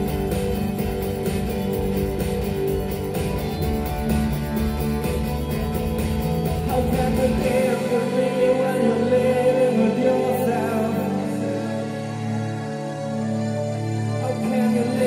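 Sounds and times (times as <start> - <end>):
live rock band: 0.0 - 12.8
person singing: 0.0 - 15.0.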